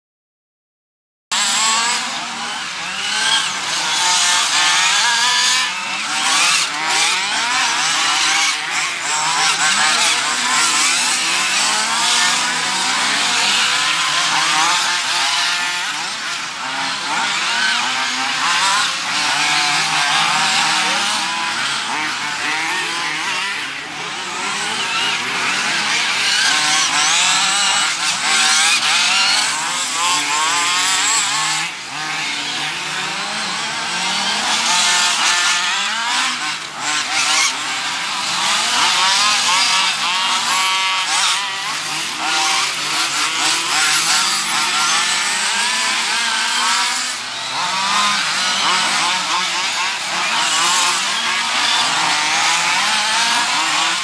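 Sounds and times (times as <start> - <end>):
small buggy engines revving: 1.3 - 54.0.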